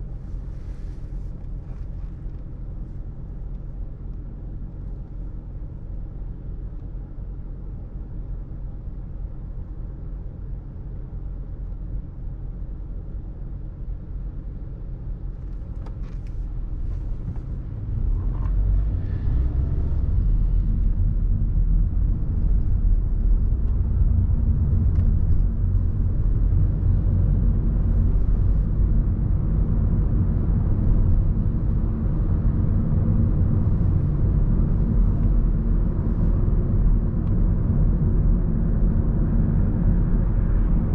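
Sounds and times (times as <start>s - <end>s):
city road traffic rumble: 0.0s - 40.9s.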